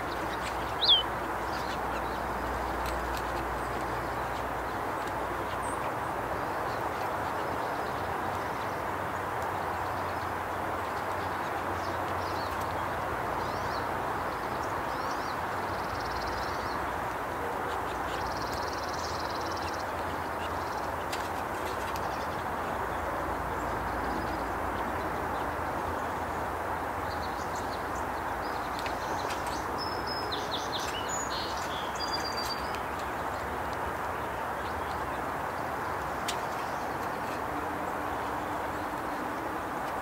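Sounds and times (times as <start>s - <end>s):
outdoor background rush: 0.0s - 40.0s
songbird chirps: 0.0s - 40.0s.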